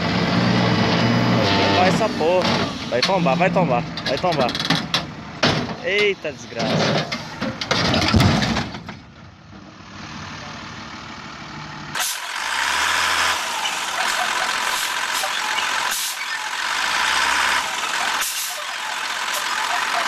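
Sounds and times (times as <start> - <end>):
heavy truck running: 0.0 - 20.0.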